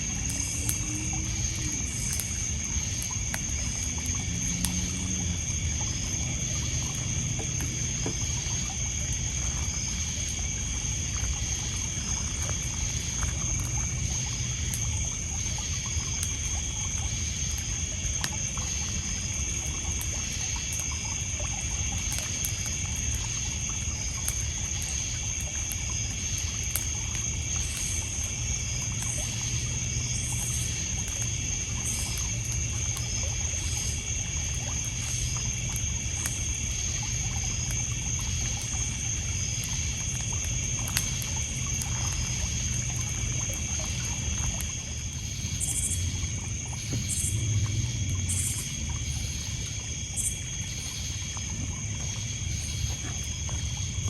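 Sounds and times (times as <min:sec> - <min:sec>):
crickets and insects trilling: 0:00.0 - 0:54.0
faint campfire crackles: 0:00.0 - 0:54.0
water lapping on pebbles: 0:00.0 - 0:54.0.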